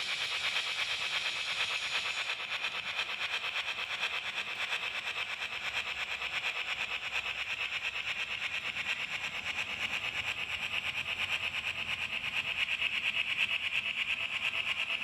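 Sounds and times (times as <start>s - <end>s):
model train running on track: 0.0s - 15.0s.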